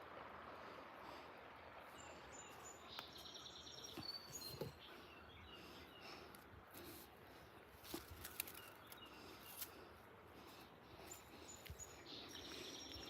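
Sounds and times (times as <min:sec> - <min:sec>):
birds chirping: 0:01.6 - 0:13.0.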